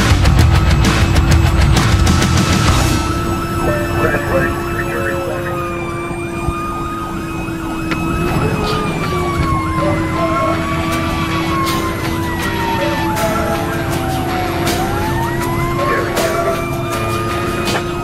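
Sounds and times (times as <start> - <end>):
fire engine siren wailing: 0.0 - 18.0
truck engine and road noise: 0.0 - 18.0.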